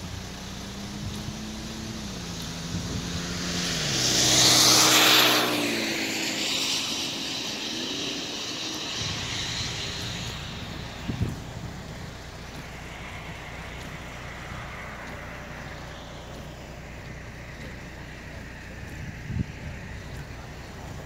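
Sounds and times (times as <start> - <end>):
truck driving past: 0.0 - 21.0.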